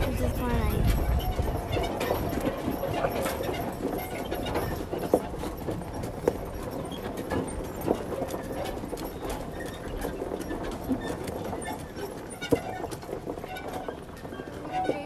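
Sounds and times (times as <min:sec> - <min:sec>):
wagon rumbling and rattling: 0:00.0 - 0:15.0.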